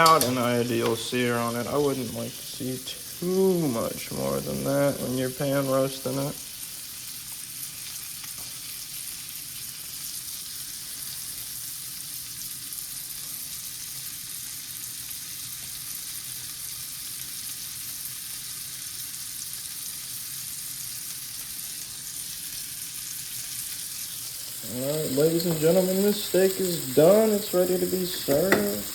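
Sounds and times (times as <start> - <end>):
steak sizzling in a pan: 0.0 - 28.9.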